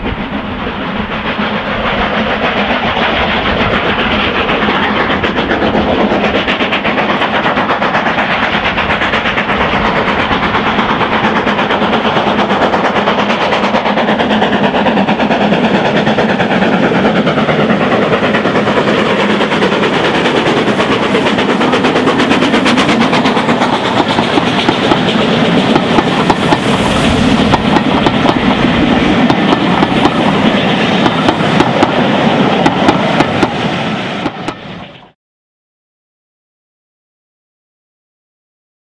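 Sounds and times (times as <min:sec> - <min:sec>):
train wheels clicking over rail joints: 0:00.0 - 0:34.6
steam locomotives chuffing: 0:00.0 - 0:35.2.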